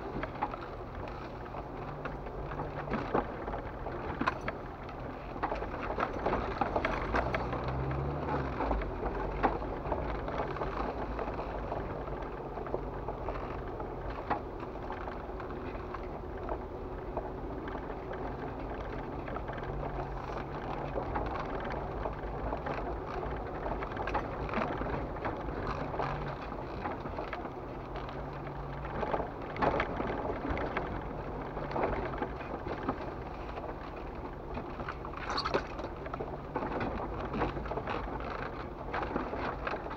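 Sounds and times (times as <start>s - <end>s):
body knocks and rattles: 0.0s - 39.9s
engine running low: 0.0s - 39.9s.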